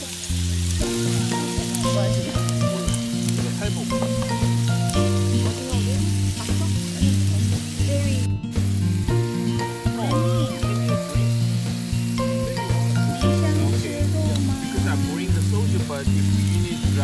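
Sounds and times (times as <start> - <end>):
meat sizzling on grill pans: 0.0 - 17.0
music with bouncy bass line: 0.0 - 17.0.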